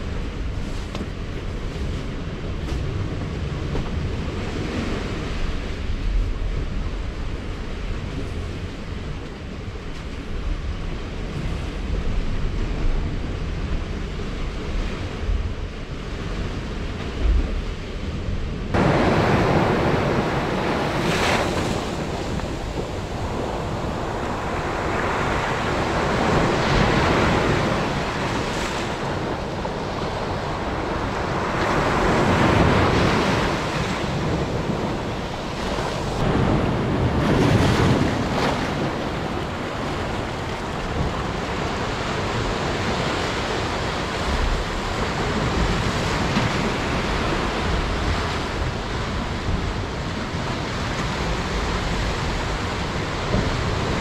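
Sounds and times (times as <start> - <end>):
sea waves washing ashore: 0.0 - 54.0
wind buffeting microphone: 0.0 - 54.0.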